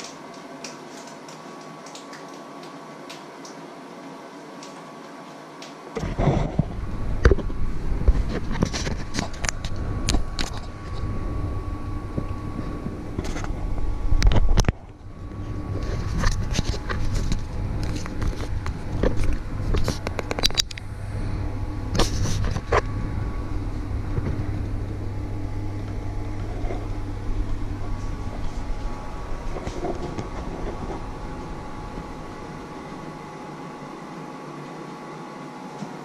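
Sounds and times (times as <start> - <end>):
kitchen appliance humming: 0.0 - 36.0.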